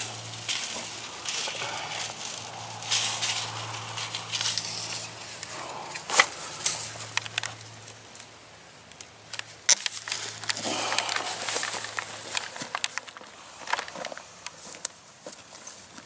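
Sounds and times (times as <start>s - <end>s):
wire coil rustling: 0.0s - 16.0s.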